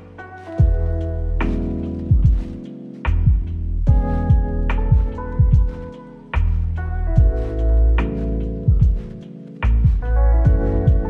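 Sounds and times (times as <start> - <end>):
slow beat background music: 0.0 - 11.0.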